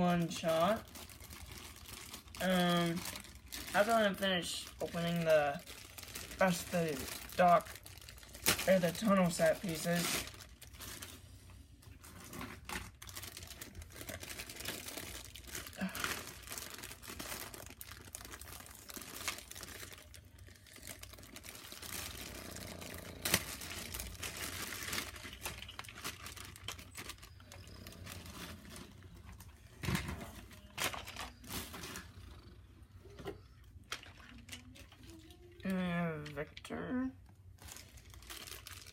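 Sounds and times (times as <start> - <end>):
wrapping crinkling and tearing: 0.0 - 38.9.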